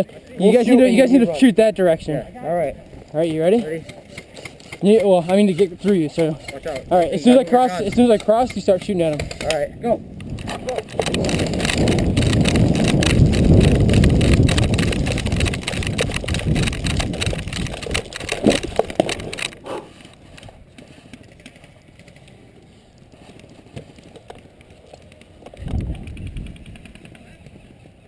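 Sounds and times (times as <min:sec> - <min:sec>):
faint scattered clicks: 0:02.8 - 0:27.7.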